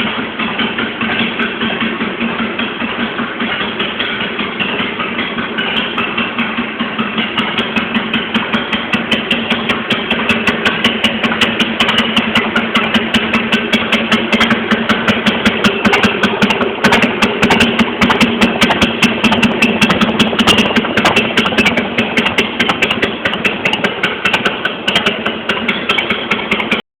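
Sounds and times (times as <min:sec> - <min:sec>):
motorcycle engine idling: 0:00.0 - 0:26.8.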